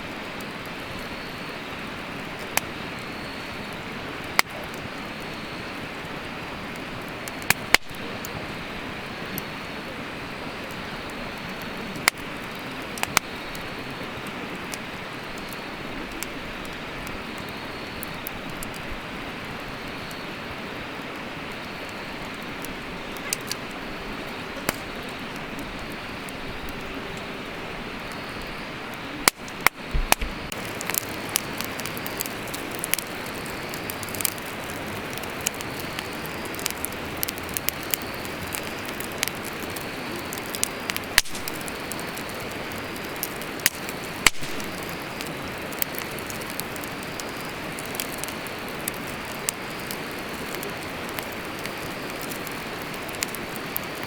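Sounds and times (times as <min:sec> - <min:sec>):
fire hissing: 0:00.0 - 0:54.0
wood fire crackling and popping: 0:00.0 - 0:54.0.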